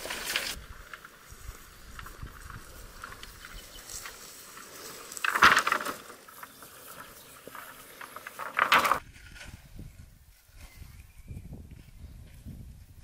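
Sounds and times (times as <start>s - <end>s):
branches rustling through grass: 0.0s - 12.3s.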